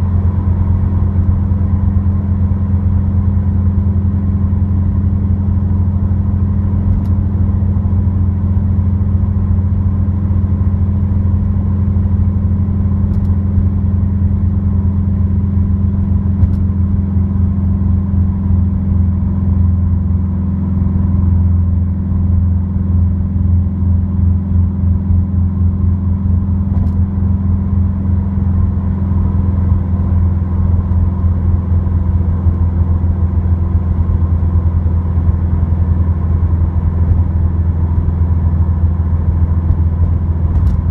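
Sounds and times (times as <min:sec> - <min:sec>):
car engine droning in cabin: 0:00.0 - 0:40.9.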